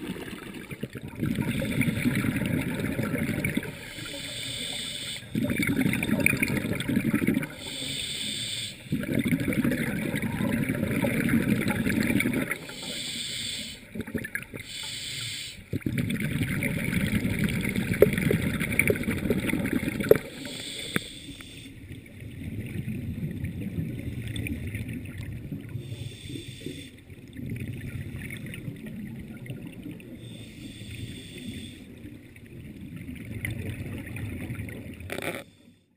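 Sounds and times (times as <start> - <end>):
exhaled bubbles rumbling underwater: 0.0 - 35.6.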